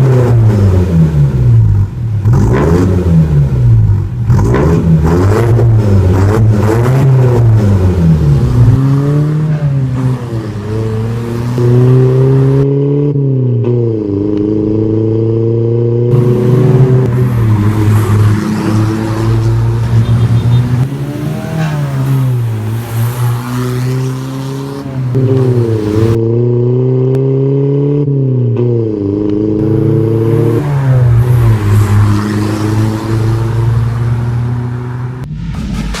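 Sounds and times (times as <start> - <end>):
car engine revving: 0.0 - 27.9, 28.6 - 36.0.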